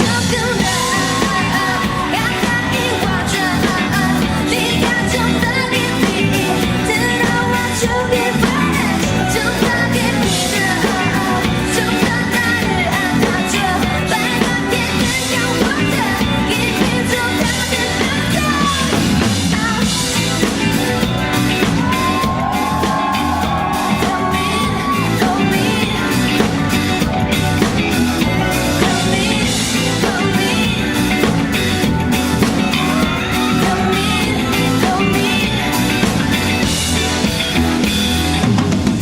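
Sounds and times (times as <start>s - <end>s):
pop song with singing: 0.0s - 38.4s
yelled vocals: 0.0s - 39.0s.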